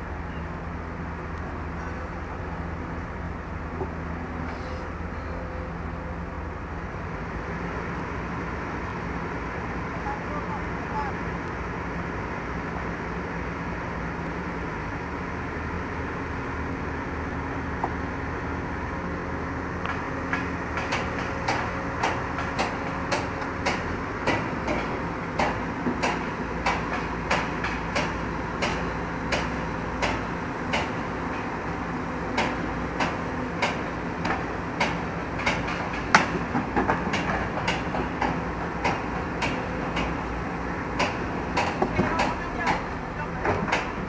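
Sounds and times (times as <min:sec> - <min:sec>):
diesel machinery running: 0:00.0 - 0:44.0.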